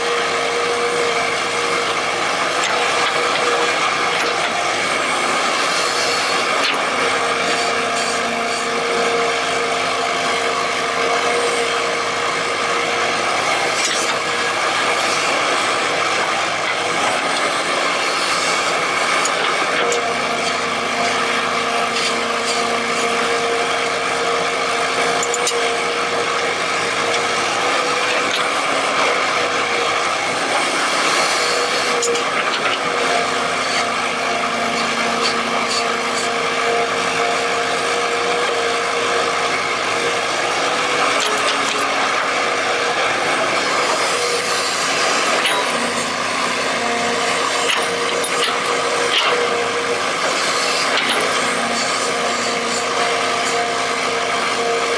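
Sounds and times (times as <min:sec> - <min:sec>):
excavator machinery whining: 0:00.0 - 0:54.9.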